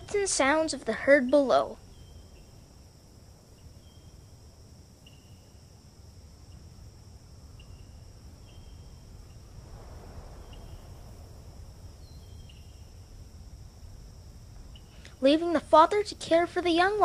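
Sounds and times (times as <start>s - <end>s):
insects droning: 0.0s - 17.0s
low wind rumble: 0.0s - 17.0s.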